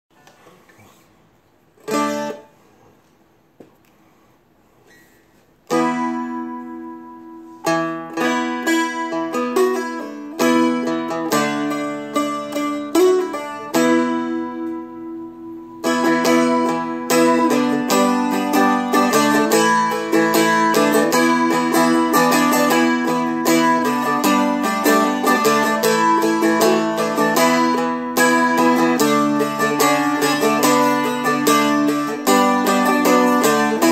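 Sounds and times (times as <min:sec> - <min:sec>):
four-string guitar strumming: 0:01.8 - 0:02.6, 0:05.6 - 0:33.9.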